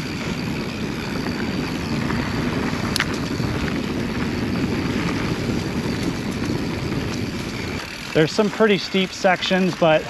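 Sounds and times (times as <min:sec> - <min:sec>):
bike tyres rolling over dirt: 0:00.0 - 0:10.0
wind buffeting microphone: 0:00.0 - 0:10.0.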